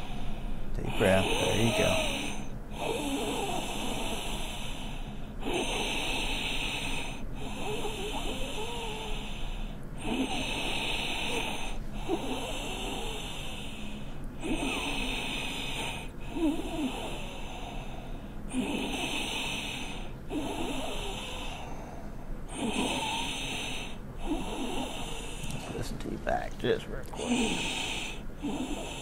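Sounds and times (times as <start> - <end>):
boy wheezing breaths: 0.0 - 25.6, 27.2 - 29.0.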